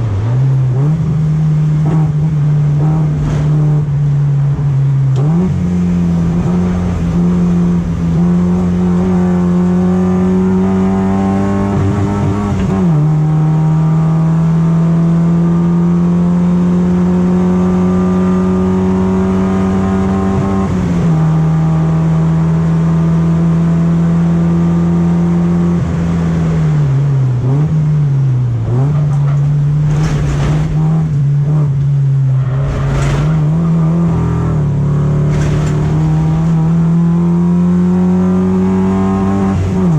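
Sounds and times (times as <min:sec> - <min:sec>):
racecar engine accelerating hard: 0:00.0 - 0:39.9.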